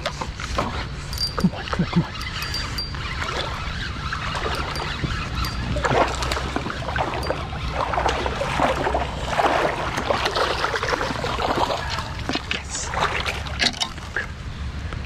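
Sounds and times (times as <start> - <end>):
creek water splashing: 0.0 - 14.4.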